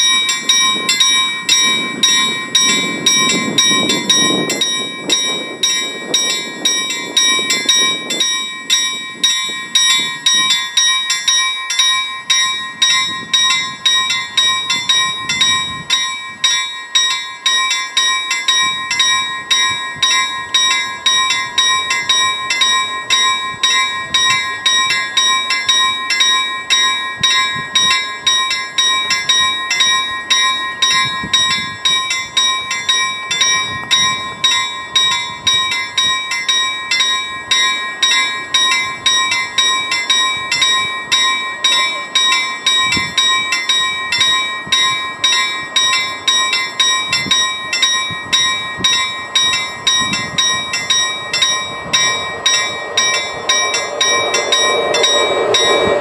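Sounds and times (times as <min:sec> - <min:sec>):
level-crossing warning bell ringing: 0:00.0 - 0:56.0
train approaching: 0:00.0 - 0:56.0.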